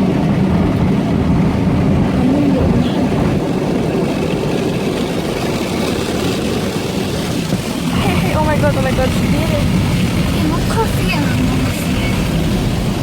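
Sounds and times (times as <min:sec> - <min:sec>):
car wash water and machinery rumble: 0:00.0 - 0:13.0.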